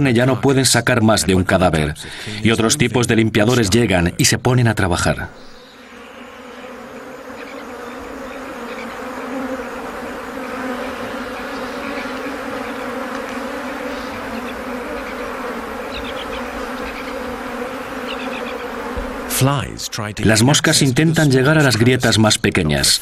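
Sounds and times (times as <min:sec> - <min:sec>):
flies buzzing: 0:00.0 - 0:21.8.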